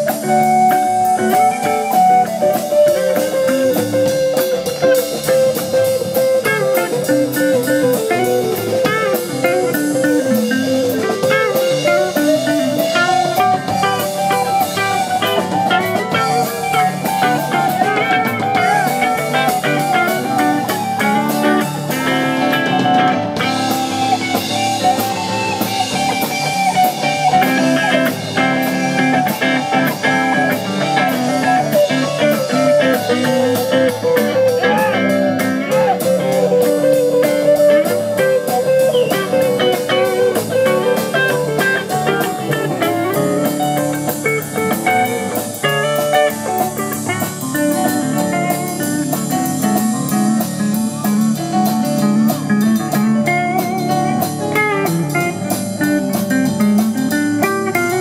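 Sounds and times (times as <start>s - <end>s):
electric guitar lead: 0.0s - 58.0s
rock band playing: 0.0s - 58.0s.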